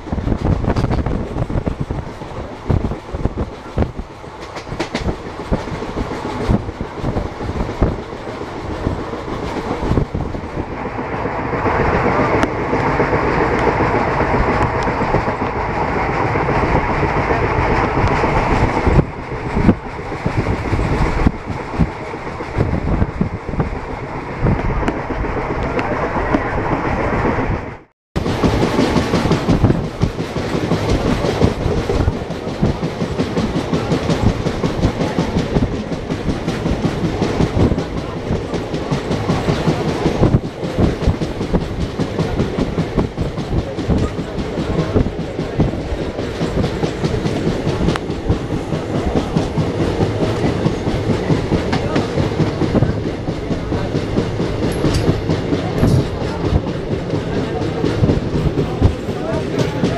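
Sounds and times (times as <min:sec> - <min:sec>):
wheels clacking over rail joints: 0:00.0 - 0:26.5, 0:28.2 - 0:59.9
wheel and rail rumble: 0:00.0 - 0:59.9.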